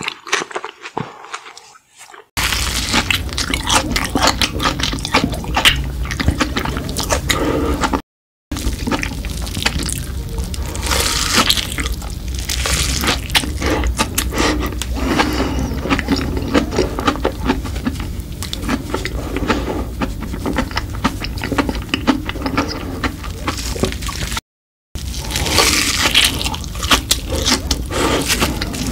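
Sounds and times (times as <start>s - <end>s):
wet squishy chewing: 0.0s - 24.4s, 25.0s - 28.9s
crunching fried snack: 2.4s - 7.3s, 8.5s - 24.4s, 25.0s - 28.9s.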